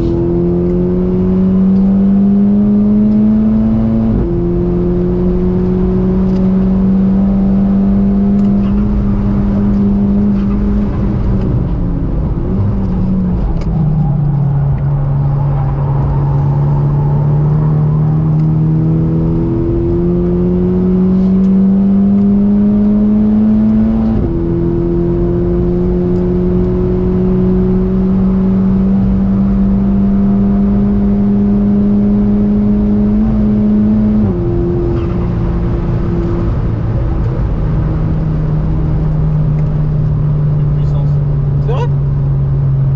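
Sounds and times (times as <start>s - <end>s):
car engine revving high: 0.0s - 42.9s.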